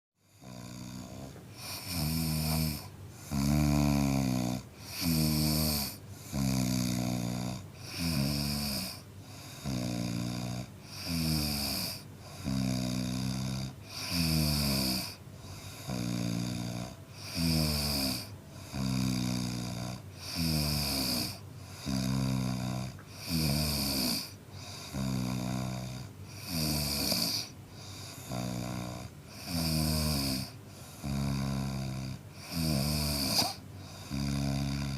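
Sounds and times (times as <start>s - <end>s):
man snoring: 0.2s - 34.9s.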